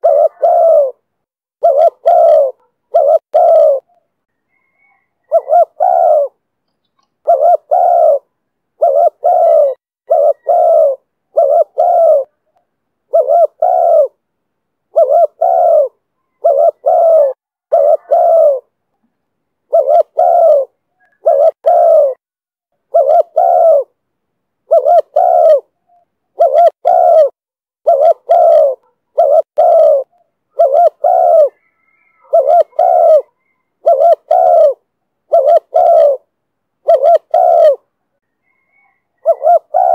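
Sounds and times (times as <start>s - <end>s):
dove cooing: 0.0s - 14.2s, 14.9s - 18.8s, 19.7s - 22.2s, 22.8s - 24.0s, 24.6s - 39.9s.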